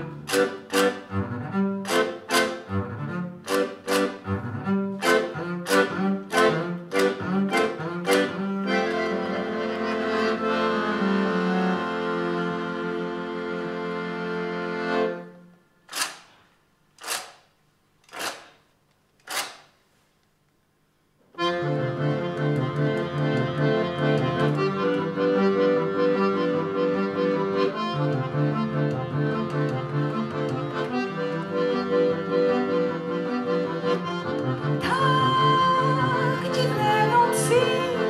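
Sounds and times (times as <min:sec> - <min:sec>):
double bass: 0:00.0 - 0:15.4, 0:21.4 - 0:38.0
piano accordion: 0:00.0 - 0:15.7, 0:21.3 - 0:38.0.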